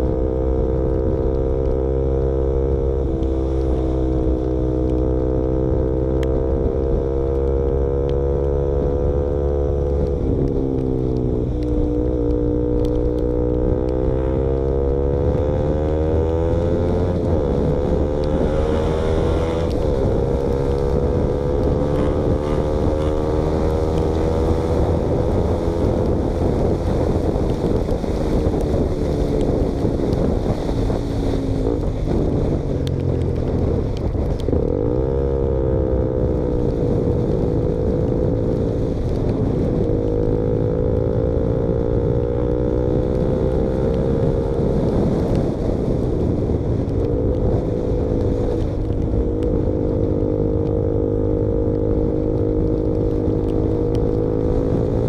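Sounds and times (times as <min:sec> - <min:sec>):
motorcycle engine revving: 0:00.0 - 0:55.0
wind buffeting microphone: 0:00.0 - 0:55.0.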